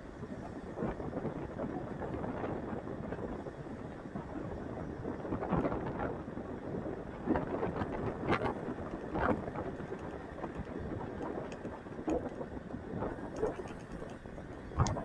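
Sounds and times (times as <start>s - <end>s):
wind rushing over microphone: 0.0s - 15.0s
motorcycle road noise: 0.1s - 15.0s.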